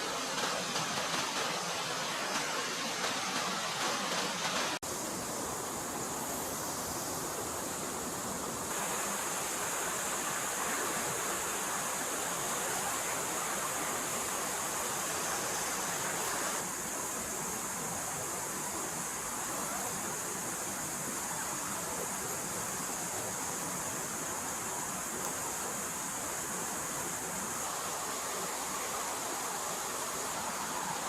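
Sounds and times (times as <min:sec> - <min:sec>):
forest stream flowing: 0:00.0 - 0:31.0.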